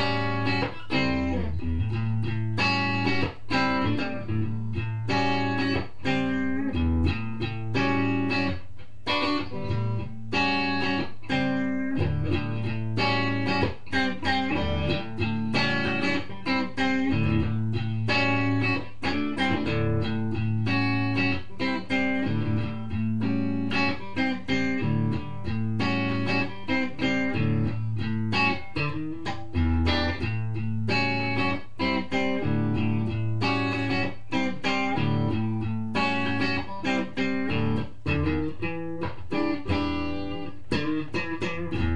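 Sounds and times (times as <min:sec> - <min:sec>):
plucked guitar music: 0:00.0 - 0:41.9.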